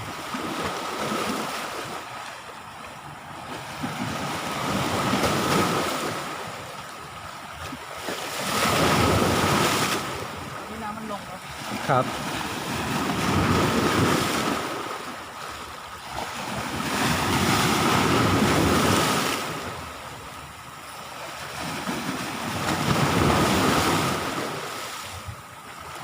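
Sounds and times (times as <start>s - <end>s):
sea waves washing ashore: 0.0s - 26.0s.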